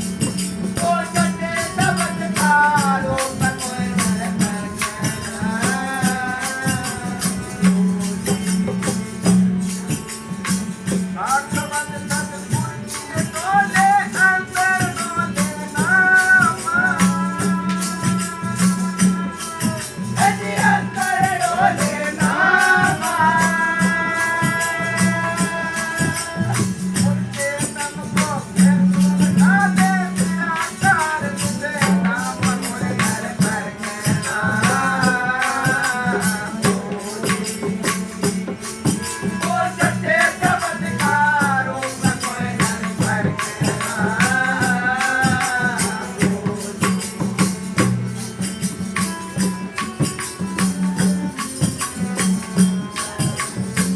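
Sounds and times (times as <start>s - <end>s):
jingling hand percussion: 0.0s - 53.9s.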